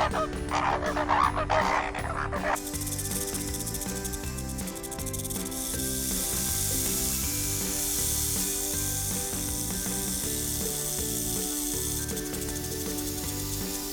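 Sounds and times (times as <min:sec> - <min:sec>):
background music with bass line: 0:00.0 - 0:13.9
steady high hiss: 0:02.6 - 0:13.9.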